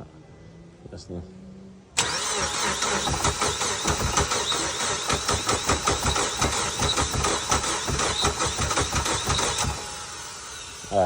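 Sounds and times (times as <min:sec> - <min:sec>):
car engine cranking on starter: 0:02.0 - 0:11.0.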